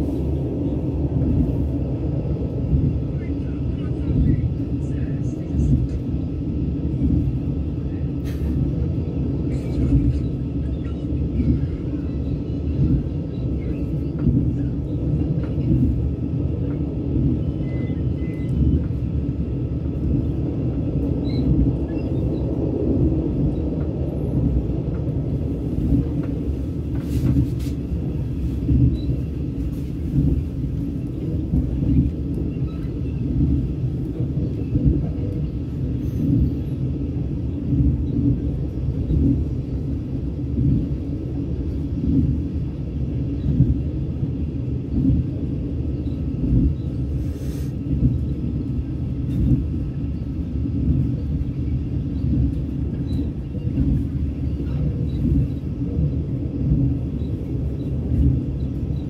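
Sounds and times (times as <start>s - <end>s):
train rumbling inside coach: 0.0s - 59.0s.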